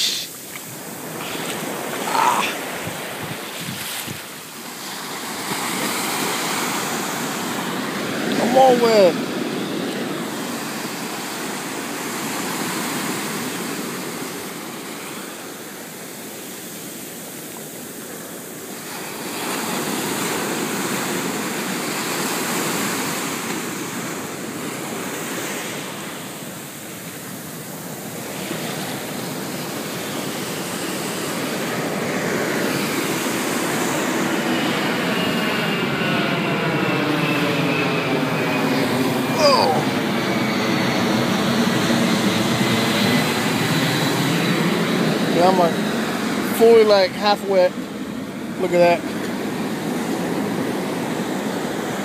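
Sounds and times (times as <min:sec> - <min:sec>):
jet airliner passing overhead: 0:00.0 - 0:52.0
ocean surf washing: 0:00.0 - 0:52.0.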